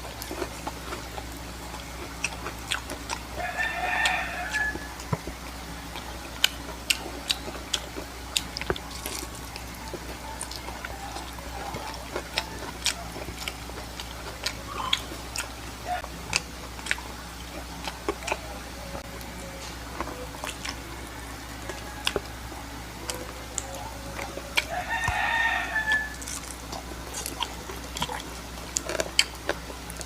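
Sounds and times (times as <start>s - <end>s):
person chewing and biting food: 0.0s - 30.0s.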